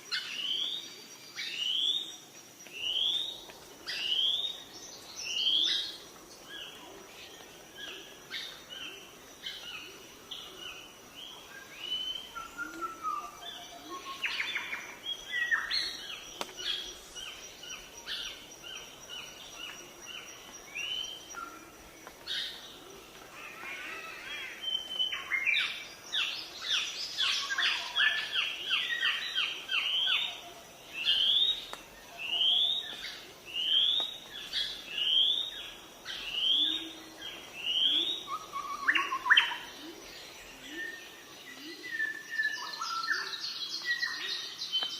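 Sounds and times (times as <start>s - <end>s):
birds calling and singing: 0.0s - 44.9s.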